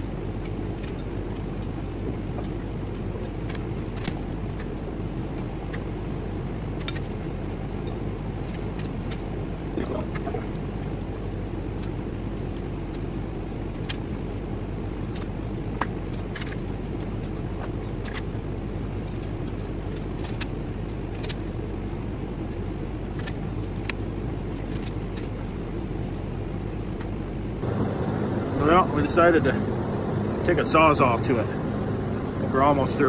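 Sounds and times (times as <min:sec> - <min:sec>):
wires clicking and scraping: 0:00.0 - 0:27.8
steady low rumble: 0:00.0 - 0:33.0.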